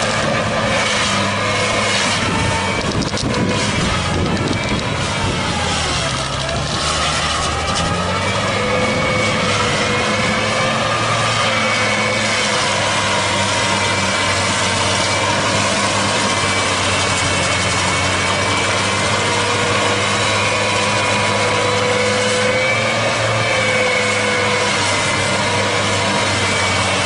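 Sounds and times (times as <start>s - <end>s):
machine engine running: 0.0s - 27.0s.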